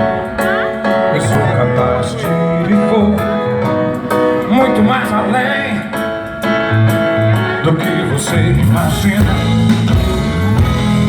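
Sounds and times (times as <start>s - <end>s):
guitar: 0.0s - 11.0s
live band playing: 0.0s - 11.0s.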